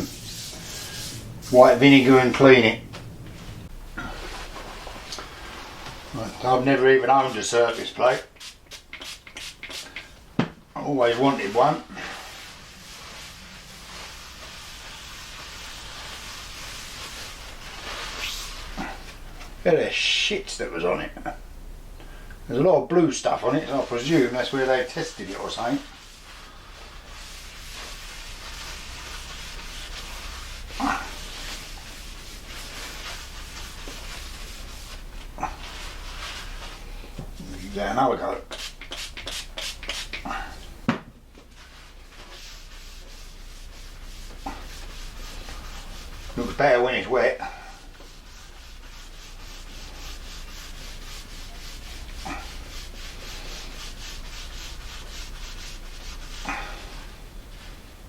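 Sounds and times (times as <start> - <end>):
cloth scrubbing a surface: 0.0 - 10.1, 10.8 - 21.4, 22.5 - 40.8, 41.4 - 58.0.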